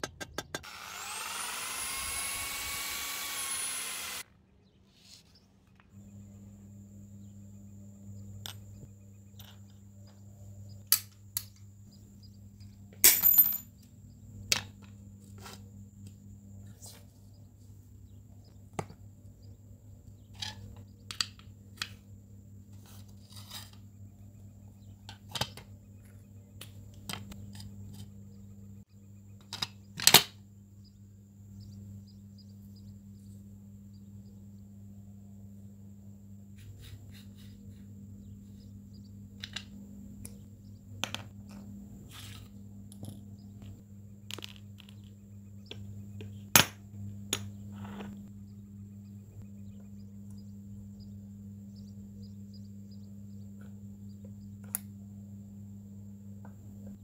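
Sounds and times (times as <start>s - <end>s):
steady low hum: 5.4s - 57.0s.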